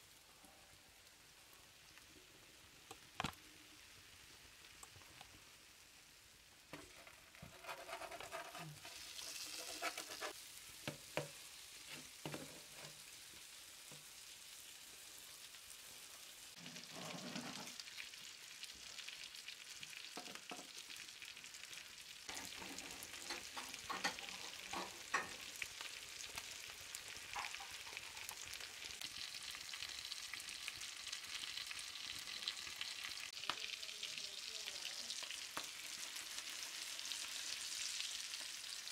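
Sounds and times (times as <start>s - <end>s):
fish frying in oil: 0.1s - 38.9s.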